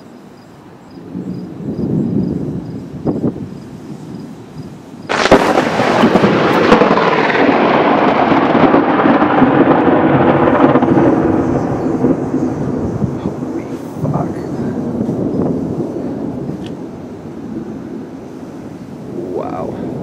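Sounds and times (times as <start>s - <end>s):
thunder cracking and rumbling: 1.0s - 20.0s.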